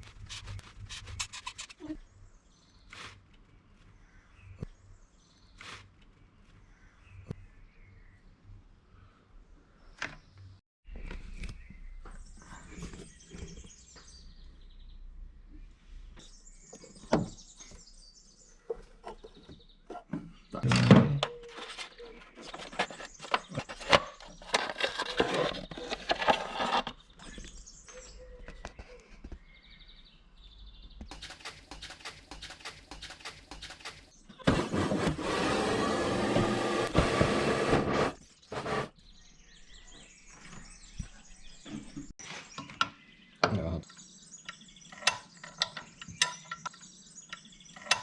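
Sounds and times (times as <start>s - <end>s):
birds chirping faintly: 0.2s - 48.0s.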